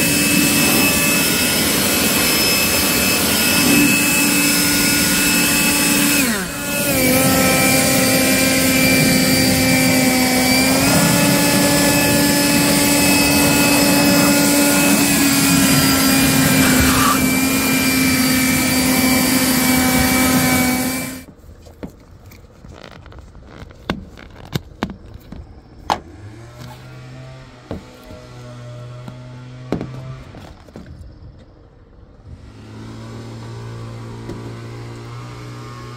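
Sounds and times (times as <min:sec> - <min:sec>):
leaf blower running: 0:00.0 - 0:21.3, 0:26.0 - 0:30.3, 0:32.3 - 0:35.9.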